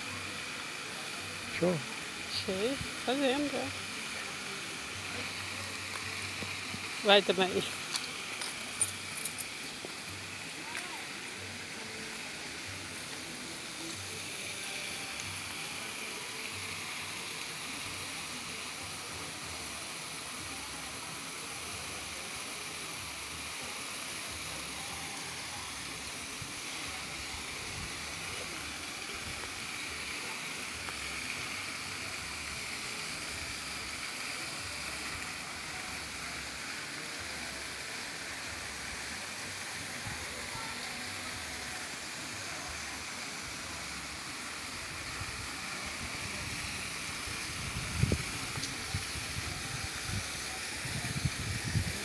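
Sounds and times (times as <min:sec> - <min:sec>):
flowing river water: 0:00.0 - 0:52.0.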